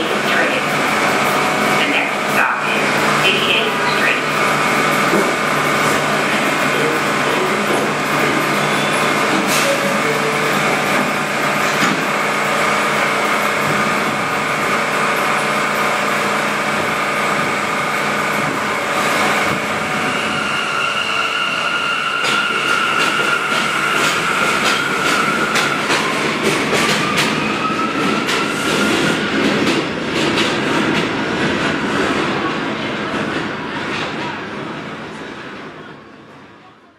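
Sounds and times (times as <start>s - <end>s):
subway train motors whining: 0.0s - 36.9s.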